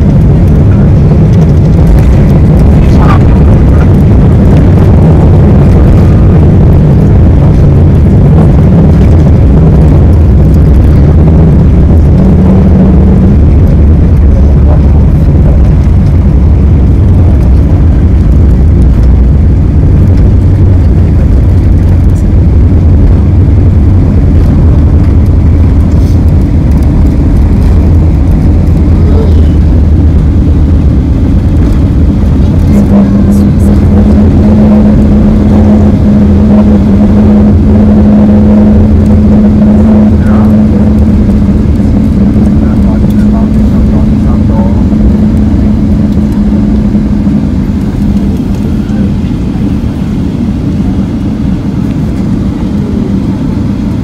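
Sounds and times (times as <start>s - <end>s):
jet engine and wheels roar: 0.0s - 54.0s
steady hum: 0.0s - 54.0s.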